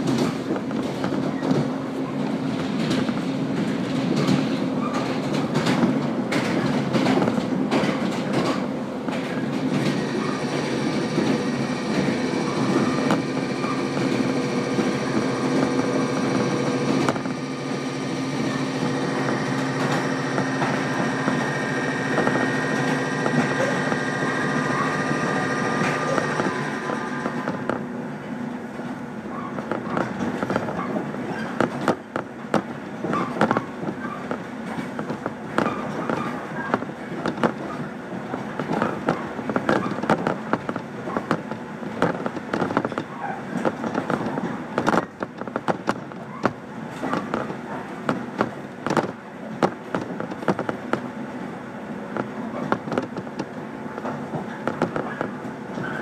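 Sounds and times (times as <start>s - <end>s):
clicks and clatter from track: 0.0s - 27.9s, 28.7s - 51.2s, 52.1s - 56.0s
train wheels rumbling on rail: 0.0s - 56.0s.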